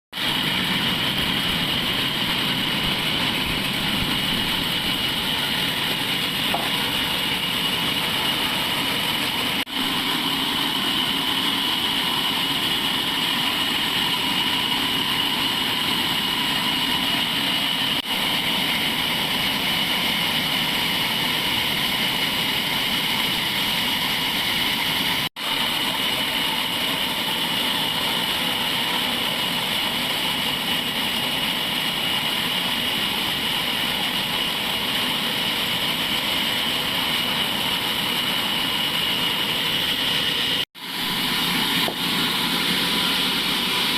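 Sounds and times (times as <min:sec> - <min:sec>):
sawmill machinery whining: 0:00.2 - 0:43.9.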